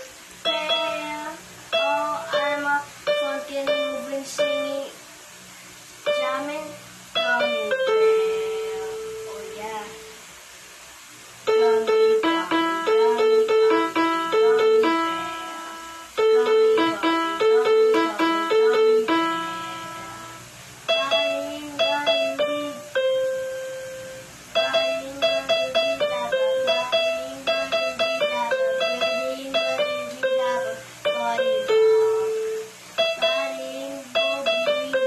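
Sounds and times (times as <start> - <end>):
electronic keyboard piano melody: 0.0 - 4.9, 6.1 - 10.2, 11.4 - 35.0.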